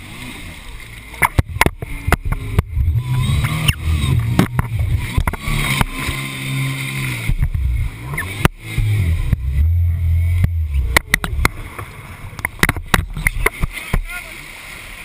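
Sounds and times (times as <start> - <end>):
jet ski engine running: 0.0 - 15.0
water splashing: 0.0 - 15.0.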